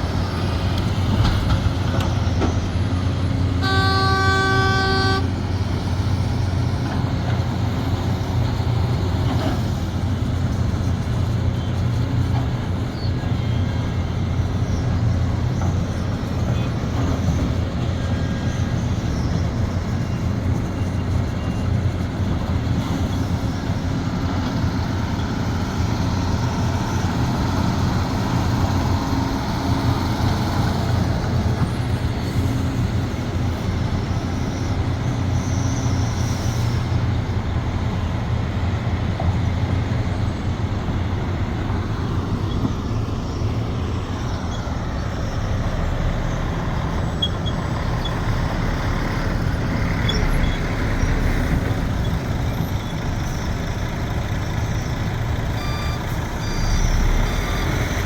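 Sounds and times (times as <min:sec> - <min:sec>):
excavator diesel engine droning: 0:00.0 - 0:58.0.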